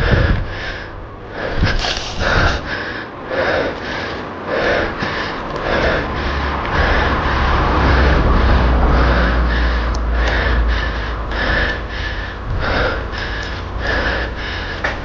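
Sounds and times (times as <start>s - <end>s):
person panting: 0.0s - 15.0s.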